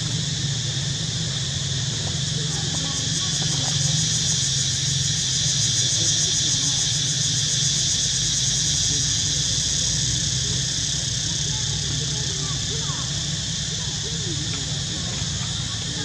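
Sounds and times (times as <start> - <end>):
cicadas buzzing: 0.0 - 16.0
steady low hum: 0.0 - 16.0.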